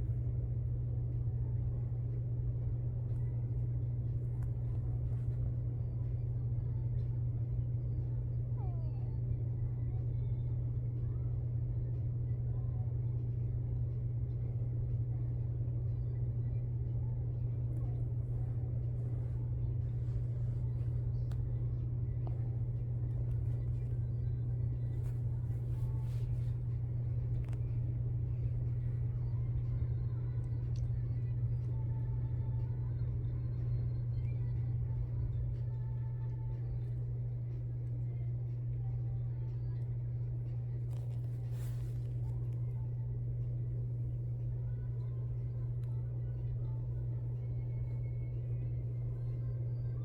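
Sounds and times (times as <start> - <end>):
low rumble: 0.0 - 50.0
steady low hum: 0.0 - 50.0.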